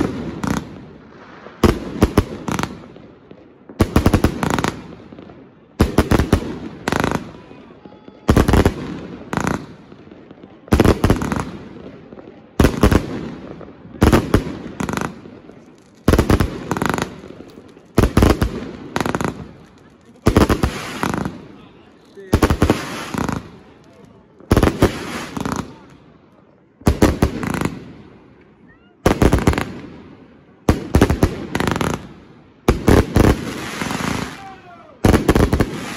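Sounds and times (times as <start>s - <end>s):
firework bangs: 0.0s - 26.2s, 26.8s - 35.9s
firework crackling: 0.0s - 35.9s.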